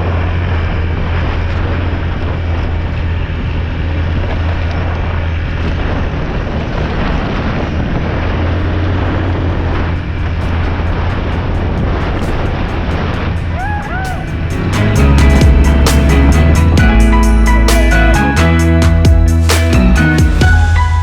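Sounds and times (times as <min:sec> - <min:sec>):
wind on microphone: 0:00.0 - 0:17.3
vehicle engine droning: 0:00.0 - 0:21.0.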